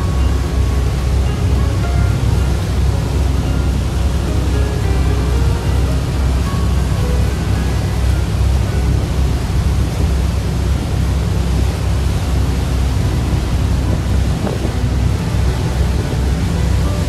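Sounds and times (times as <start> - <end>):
churning wake: 0.0 - 17.0
ship engines rumbling: 0.0 - 17.0
wind buffeting microphone: 0.0 - 17.0.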